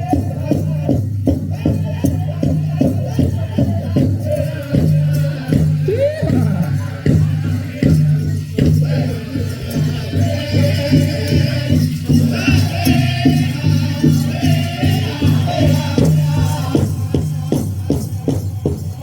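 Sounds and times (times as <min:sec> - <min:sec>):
big drum beating: 0:00.0 - 0:19.0
group of voices singing: 0:00.0 - 0:19.0.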